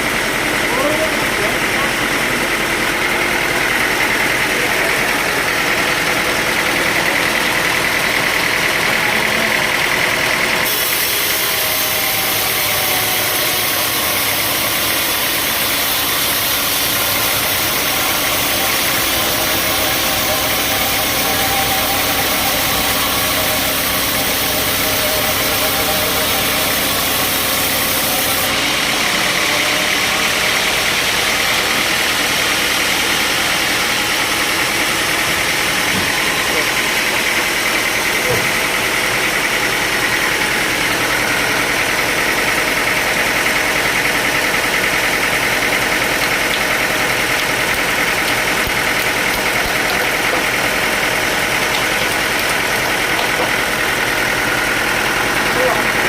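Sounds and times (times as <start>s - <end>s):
engine-driven saw running: 0.0s - 56.0s.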